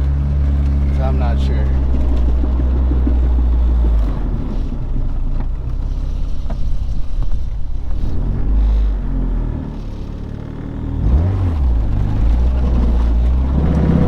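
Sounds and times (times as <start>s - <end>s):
car road and drivetrain rumble: 0.0s - 14.0s.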